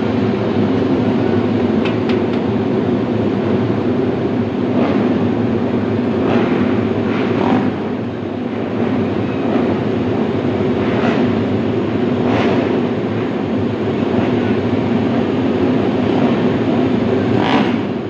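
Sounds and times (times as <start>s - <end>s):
racing motorcycle engines: 0.0s - 18.0s.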